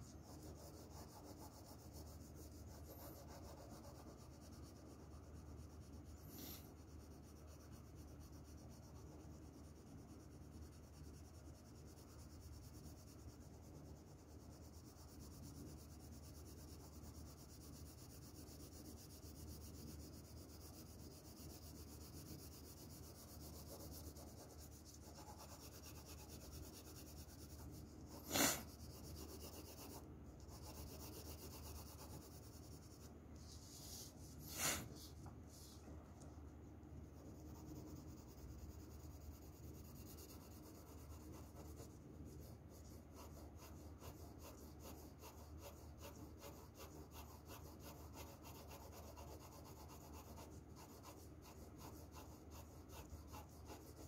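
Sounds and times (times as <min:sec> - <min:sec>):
pencil shading on paper: 0:00.0 - 0:35.7, 0:37.0 - 0:54.0.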